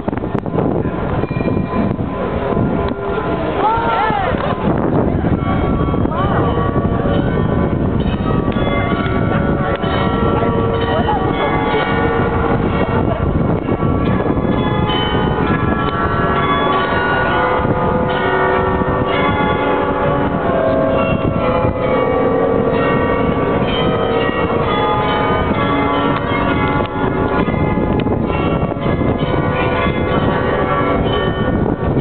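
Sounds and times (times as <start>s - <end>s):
carillon bells playing a tune: 0.2s - 32.0s.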